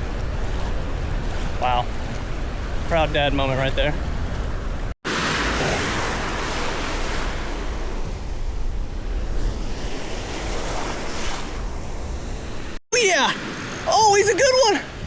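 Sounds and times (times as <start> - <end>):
wind on microphone: 0.0 - 12.8
surf washing onto beach: 0.0 - 15.0.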